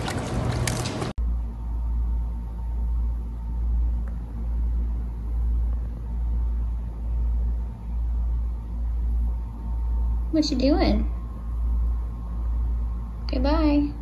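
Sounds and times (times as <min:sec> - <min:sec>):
faint steady hum: 0:00.0 - 0:14.0
deep pulsing rumble: 0:01.2 - 0:14.0.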